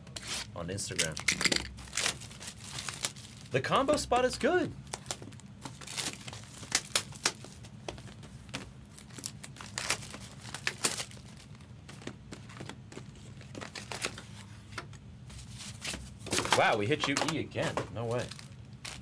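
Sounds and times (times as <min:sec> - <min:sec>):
plastic shrink wrap crinkling: 0:00.9 - 0:14.4, 0:15.6 - 0:19.0.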